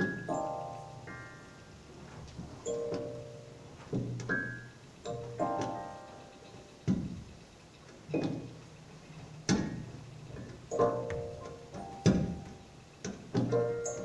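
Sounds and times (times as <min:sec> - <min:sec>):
keyboard notes and chords: 0:00.0 - 0:07.3, 0:09.4 - 0:14.0.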